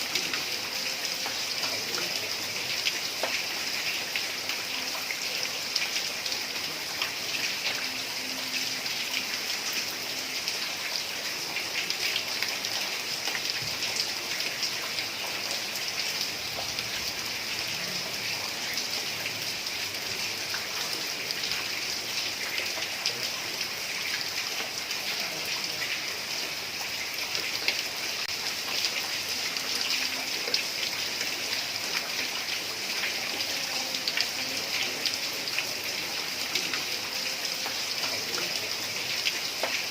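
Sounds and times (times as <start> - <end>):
heavy rain on a tiled roof: 0.0 - 39.9.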